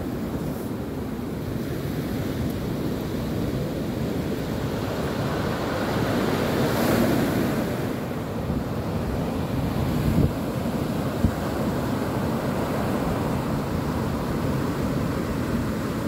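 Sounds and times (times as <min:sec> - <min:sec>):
sea waves breaking on beach: 0:00.0 - 0:16.0
wind rumbling on microphone: 0:00.0 - 0:16.0.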